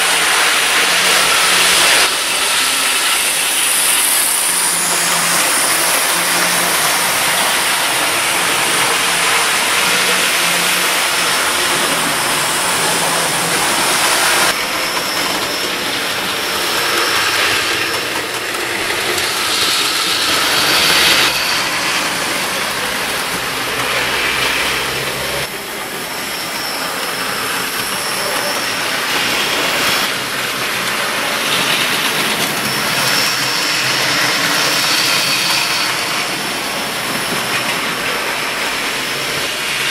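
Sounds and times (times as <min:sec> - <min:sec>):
model train motors humming: 0:00.0 - 0:39.9
wheels rolling on track: 0:00.0 - 0:39.9.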